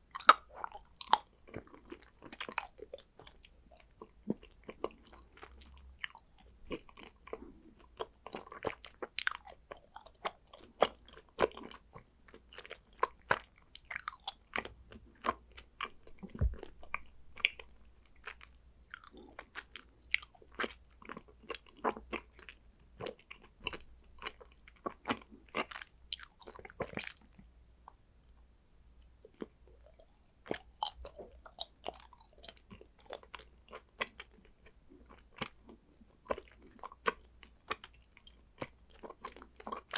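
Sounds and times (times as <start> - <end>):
chewing crunchy chocolate: 0.0 - 28.4, 29.1 - 39.9.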